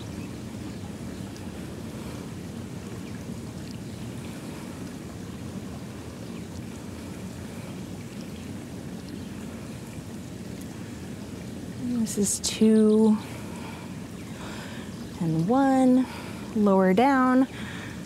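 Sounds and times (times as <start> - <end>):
low outdoor rush: 0.0 - 18.0.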